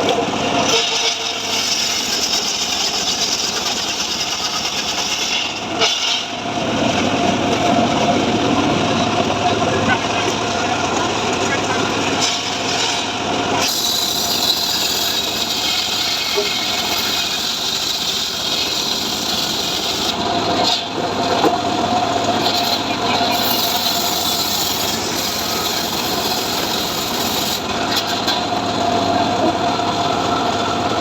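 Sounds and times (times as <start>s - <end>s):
log sawmill cutting wood: 0.0s - 7.7s, 11.3s - 31.0s.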